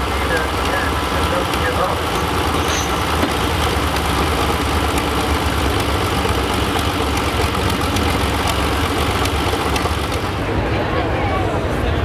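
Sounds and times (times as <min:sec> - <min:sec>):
tractor engine idling: 0:00.0 - 0:10.9.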